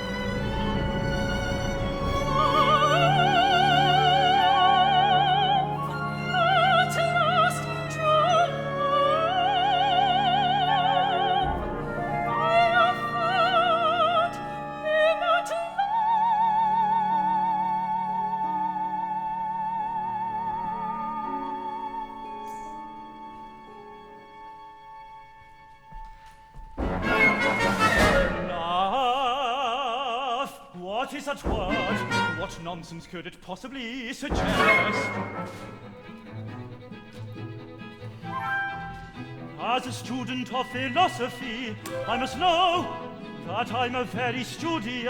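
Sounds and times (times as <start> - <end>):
operatic singing with vibrato: 0.0 - 23.6, 26.8 - 45.0.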